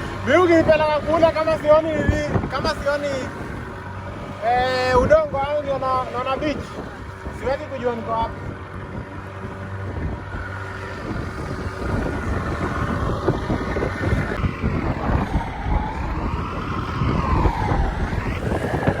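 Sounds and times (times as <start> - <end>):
small boat engine whine: 0.0 - 19.0
wind buffeting microphone: 0.0 - 19.0.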